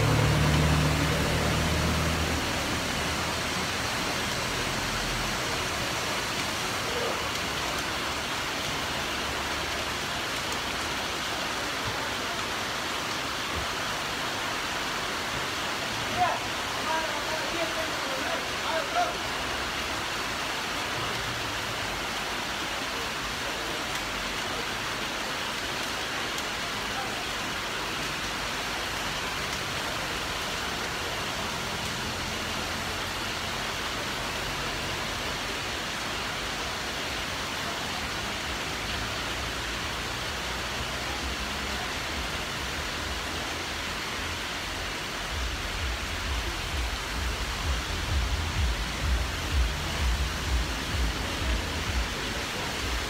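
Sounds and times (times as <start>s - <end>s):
heavy rain pouring on street: 0.0s - 53.0s.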